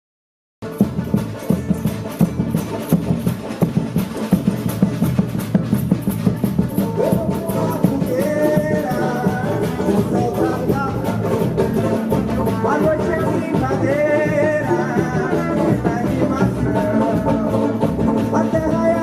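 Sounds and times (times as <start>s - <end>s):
bass: 0.6s - 19.0s
live band drum groove: 0.6s - 19.0s.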